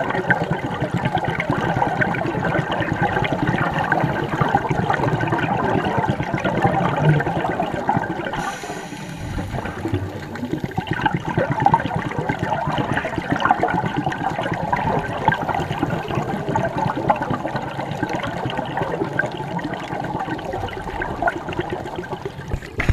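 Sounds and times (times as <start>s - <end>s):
air bubbles rushing underwater: 0.0s - 22.9s.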